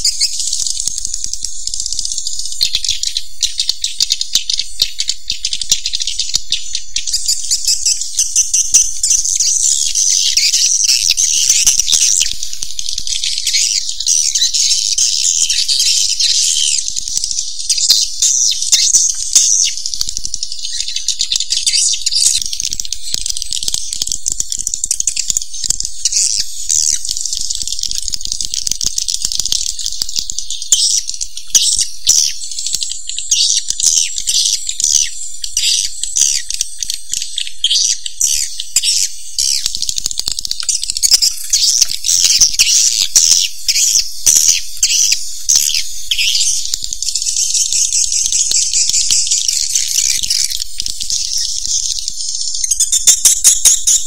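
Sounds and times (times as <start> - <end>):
swiftlets chattering calls: 0.0 - 54.0.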